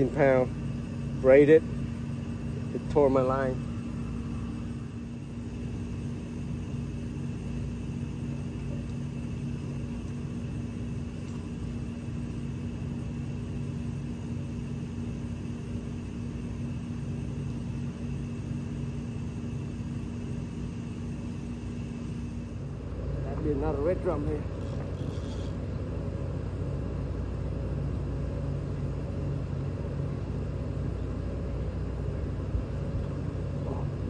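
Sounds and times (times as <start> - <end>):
steady engine hum: 0.0 - 34.0.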